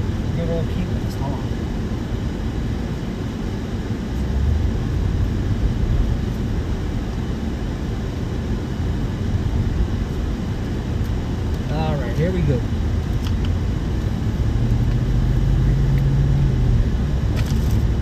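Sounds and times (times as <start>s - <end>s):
low vehicle rumble: 0.0s - 18.0s.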